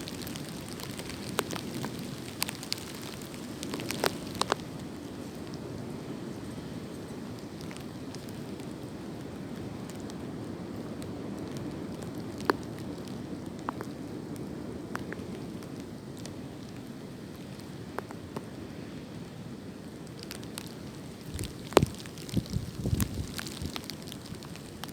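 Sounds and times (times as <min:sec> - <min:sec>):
wind through tree leaves: 0:00.0 - 0:24.9.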